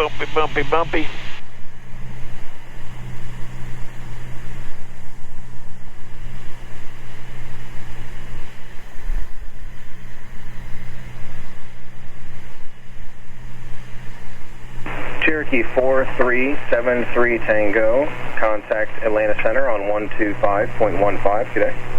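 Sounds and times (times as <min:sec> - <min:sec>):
airplane engine drone in cabin: 0:00.0 - 0:21.9.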